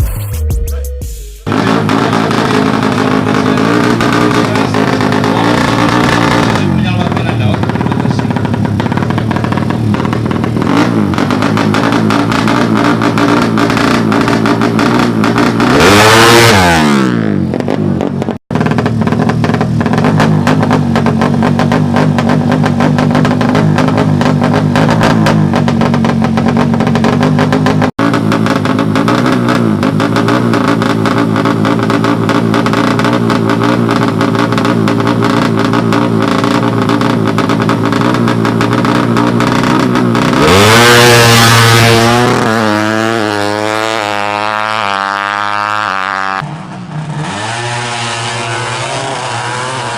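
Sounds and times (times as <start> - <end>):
engine pitch sweeping down: 0.0 - 49.9
motorbike engines running: 1.5 - 49.9.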